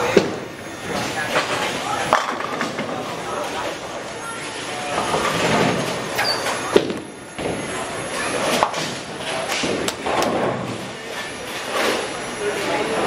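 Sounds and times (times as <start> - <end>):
bowling balls rolling on lanes: 0.0 - 13.0.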